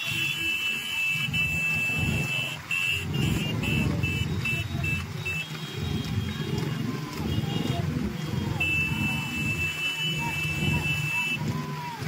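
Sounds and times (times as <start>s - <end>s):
motorcycle engines: 0.0s - 12.0s
road rumble: 0.0s - 12.0s.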